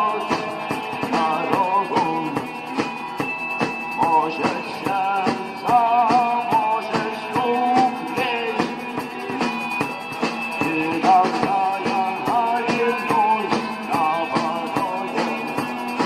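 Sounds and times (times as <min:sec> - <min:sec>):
rock music with drums and guitar: 0:00.0 - 0:16.0.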